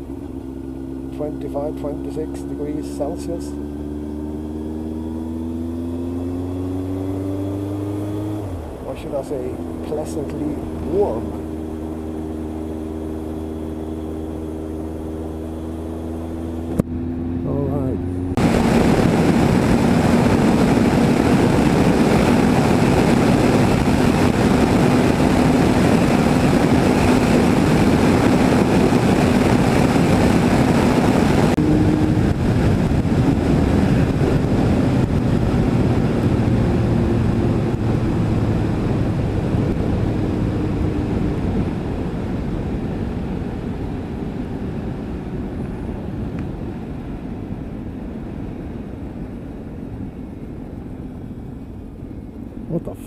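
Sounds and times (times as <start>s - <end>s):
wind rush on microphone: 0.0s - 16.9s, 17.6s - 52.9s
motorcycle engine running: 0.0s - 53.0s.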